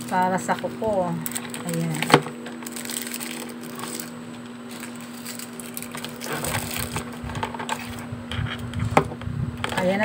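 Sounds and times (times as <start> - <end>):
low steady hum: 0.0 - 10.0
plastic items rustling and clicking: 0.0 - 10.0.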